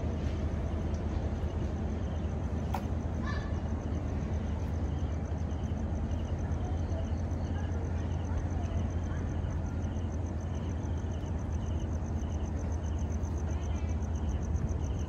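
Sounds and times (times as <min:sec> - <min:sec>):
diesel train engine idling: 0:00.0 - 0:15.0.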